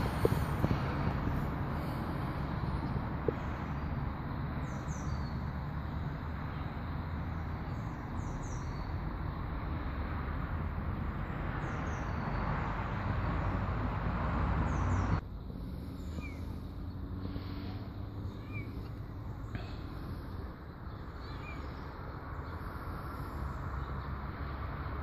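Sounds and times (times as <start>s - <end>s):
small birds chirping: 0.0s - 9.8s, 11.1s - 13.6s, 14.6s - 25.0s
outdoor rumble and hiss: 0.0s - 25.0s.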